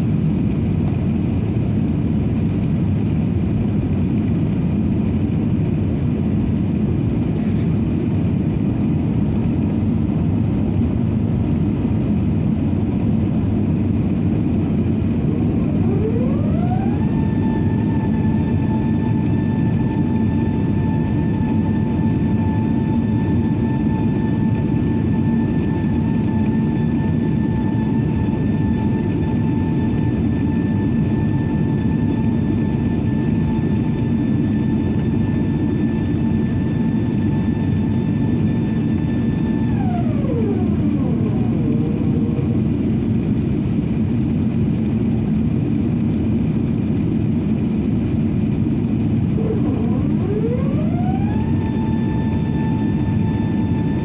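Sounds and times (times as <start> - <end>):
jet engines and airflow roar: 0.0 - 54.0
rising whine: 7.1 - 45.1, 48.4 - 54.0.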